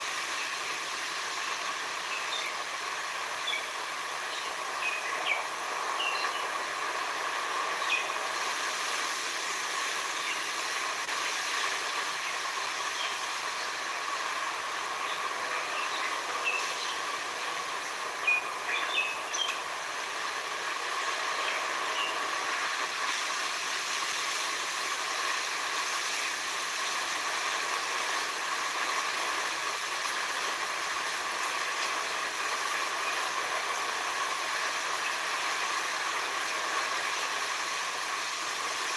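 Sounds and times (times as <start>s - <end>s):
hissing sea and forest ambience: 0.0s - 38.9s.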